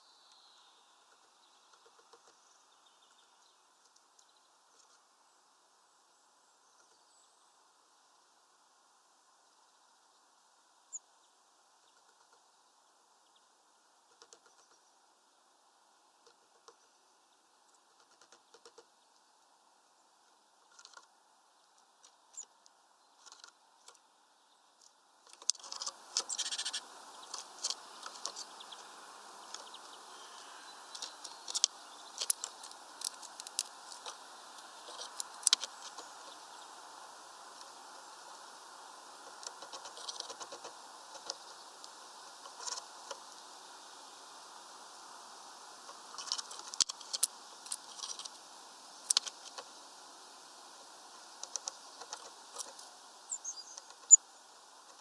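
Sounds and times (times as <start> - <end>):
birds pecking and hopping on twigs: 0.0 - 5.6, 9.6 - 55.0
steady hiss: 0.0 - 55.0.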